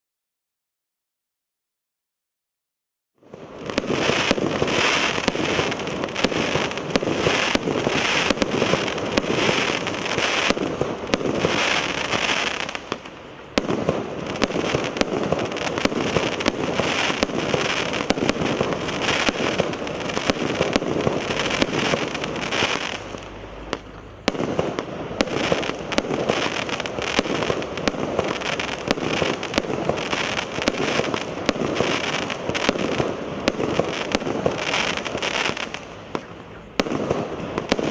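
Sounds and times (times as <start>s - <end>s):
fireworks firing in rapid succession: 3.2s - 37.9s.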